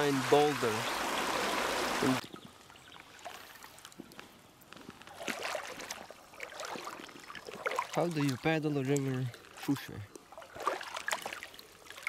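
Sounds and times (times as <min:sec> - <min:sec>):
river water trickling over stones: 0:00.0 - 0:12.0
small water splashes: 0:00.0 - 0:12.0.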